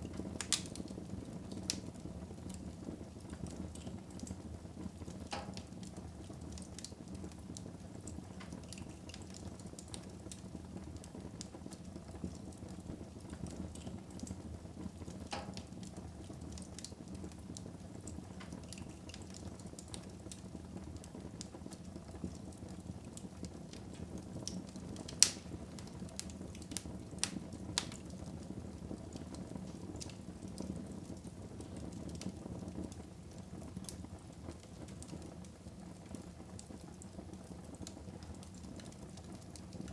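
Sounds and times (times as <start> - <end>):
fire crackling and popping: 0.0 - 39.9
fire flames rushing: 0.0 - 39.9.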